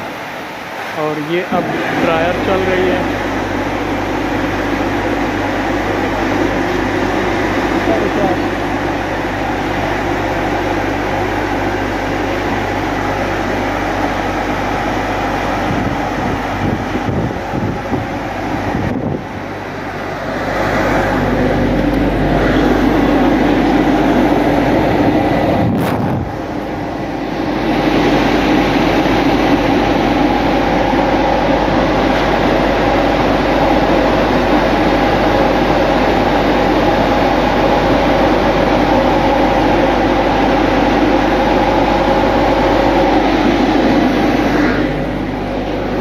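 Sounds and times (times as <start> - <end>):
car wash blower dryer: 0.0 - 46.0.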